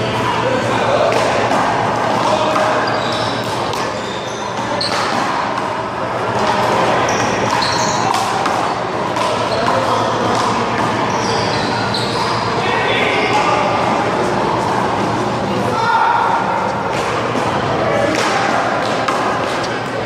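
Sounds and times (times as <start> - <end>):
busy background noise: 0.0 - 20.0.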